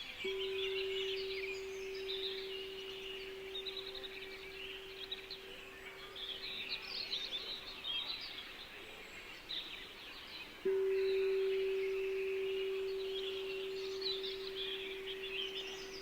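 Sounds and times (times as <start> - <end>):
faint background hiss: 0.0 - 16.0
singing bowl humming: 0.0 - 16.0
small birds chirping: 0.0 - 16.0.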